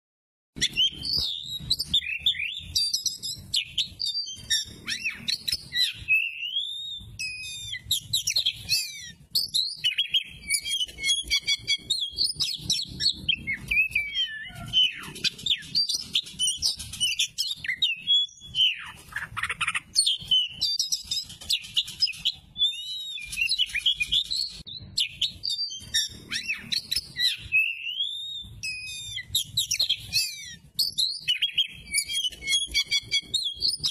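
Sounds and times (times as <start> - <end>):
bird singing varied song: 0.6 - 33.9.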